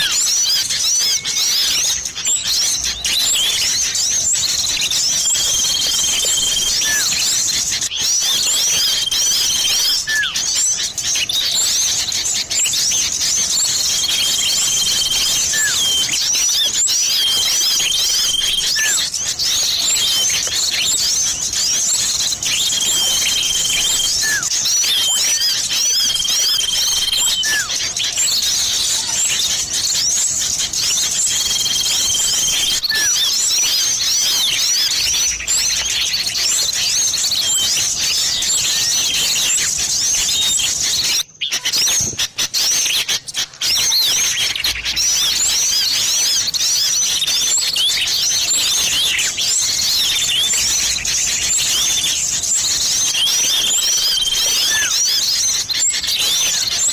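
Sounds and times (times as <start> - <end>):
long level bird whistles: 0.0 - 56.9
songbirds twittering: 0.0 - 56.9.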